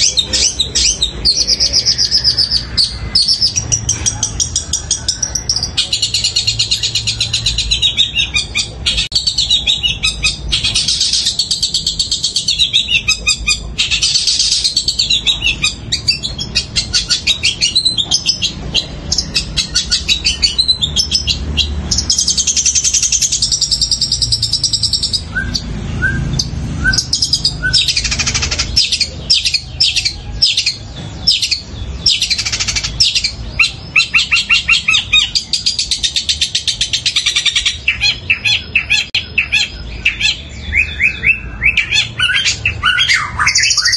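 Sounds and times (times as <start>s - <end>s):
shrike singing chattering notes: 0.0s - 43.9s.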